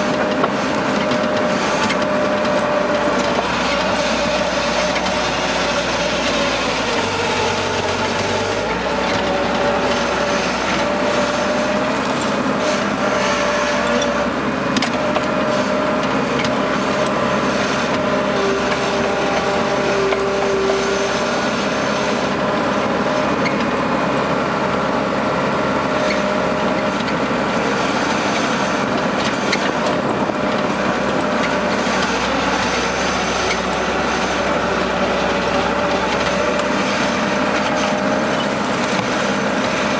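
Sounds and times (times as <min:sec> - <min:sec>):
diesel engine running: 0:00.0 - 0:39.9
steady whine: 0:00.0 - 0:39.9.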